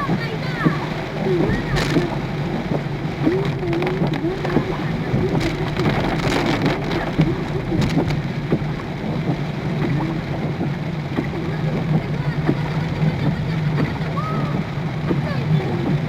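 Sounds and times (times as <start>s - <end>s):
heavy rain on car roof: 0.0s - 16.0s
moving car rumble: 0.0s - 16.0s.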